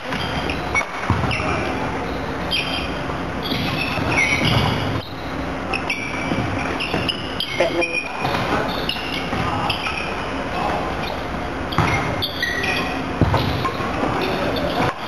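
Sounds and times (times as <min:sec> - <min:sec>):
distant voices: 0:00.0 - 0:15.0
shoes squeaking on wooden floor: 0:00.0 - 0:15.0.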